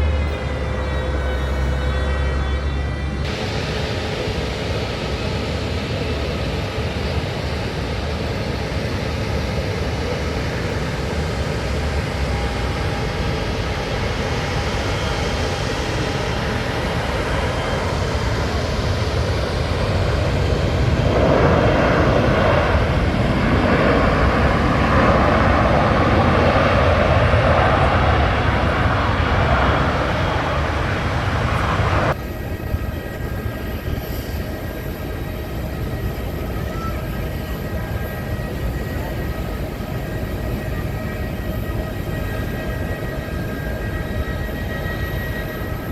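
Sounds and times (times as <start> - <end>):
jet engines roaring: 0.0 - 45.9.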